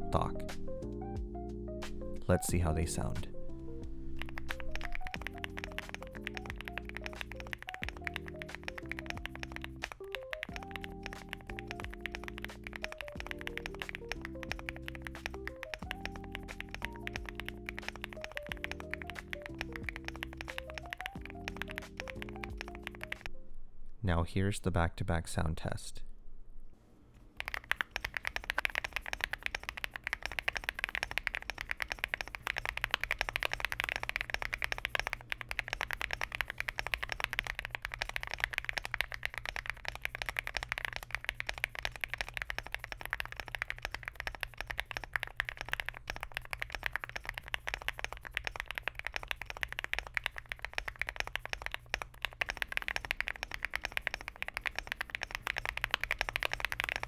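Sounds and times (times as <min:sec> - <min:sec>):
fast typing on mechanical keyboard: 0:04.0 - 0:23.3, 0:27.2 - 0:57.0.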